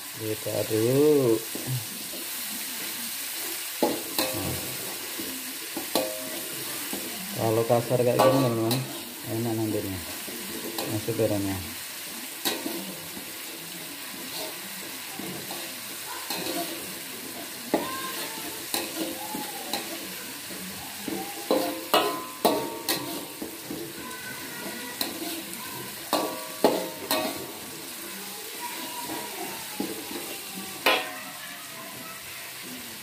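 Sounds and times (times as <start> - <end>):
paste sizzling in hot oil: 0.0 - 33.0
metal spatula scraping a wok: 3.3 - 11.4, 12.0 - 31.3.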